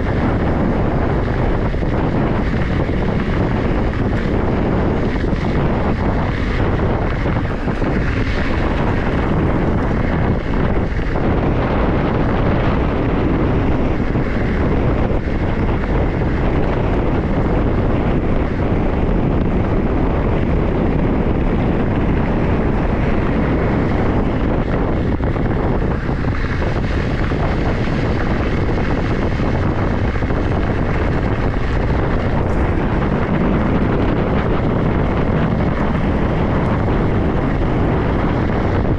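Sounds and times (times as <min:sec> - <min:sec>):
tyre and road rumble: 0:00.0 - 0:38.9
wind on microphone: 0:00.0 - 0:38.9.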